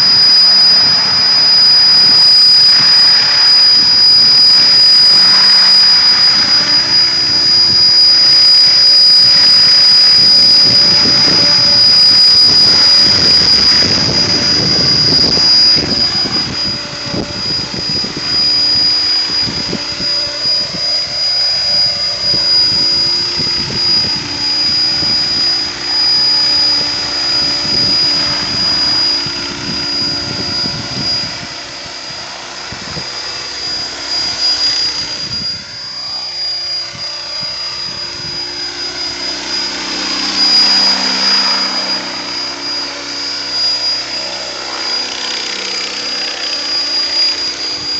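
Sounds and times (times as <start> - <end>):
rc helicopter whine: 0.0 - 47.9.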